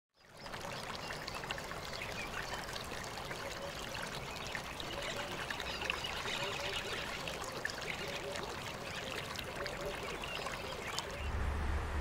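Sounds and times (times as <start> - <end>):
water drips and splashes: 0.2 - 11.3
water trickling: 0.2 - 11.4.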